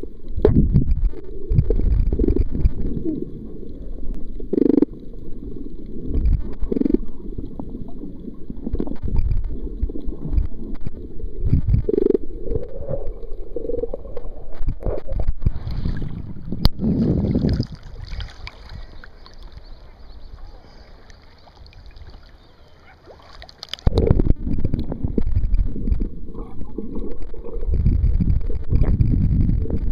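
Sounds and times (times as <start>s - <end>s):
underwater rumbling and sloshing: 0.0s - 29.9s
water gurgles: 0.0s - 29.9s.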